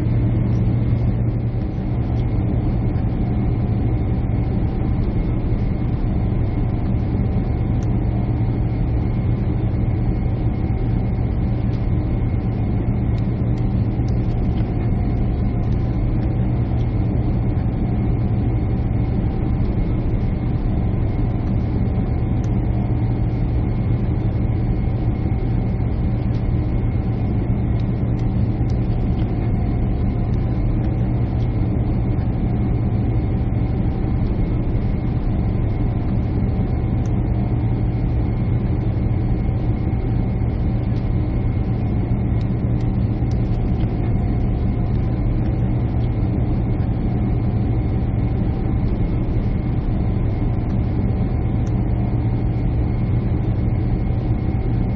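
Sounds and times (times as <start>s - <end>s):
jet engine drone in cabin: 0.0s - 54.9s.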